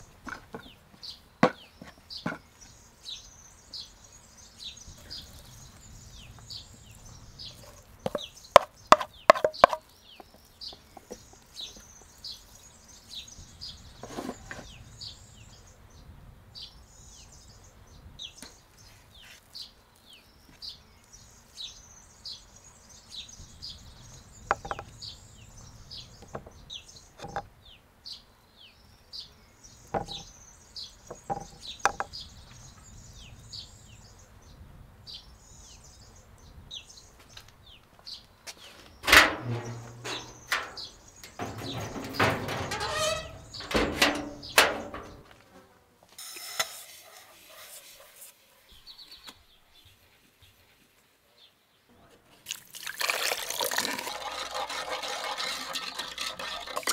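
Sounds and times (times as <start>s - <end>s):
small birds chirping: 0.0s - 45.5s, 46.7s - 52.5s.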